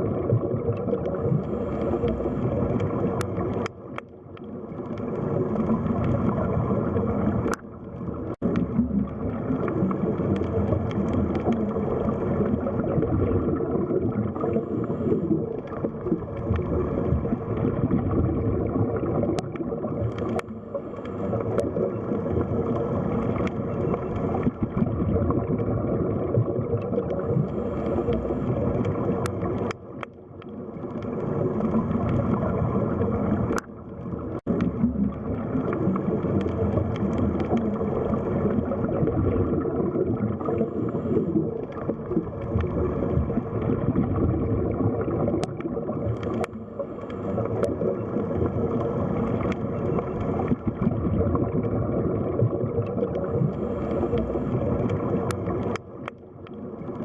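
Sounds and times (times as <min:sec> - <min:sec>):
underwater rush and gurgle: 0:00.0 - 0:57.0.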